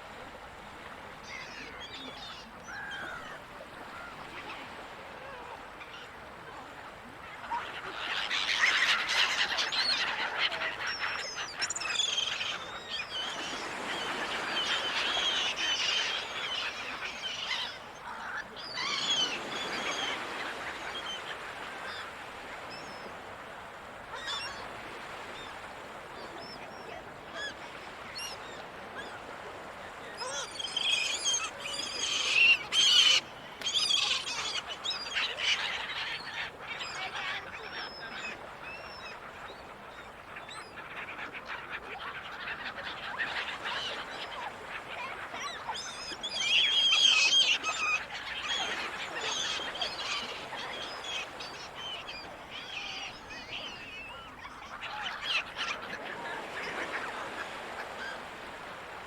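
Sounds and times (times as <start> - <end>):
gulls calling: 7.5 - 23.3, 24.2 - 41.4, 42.0 - 58.9.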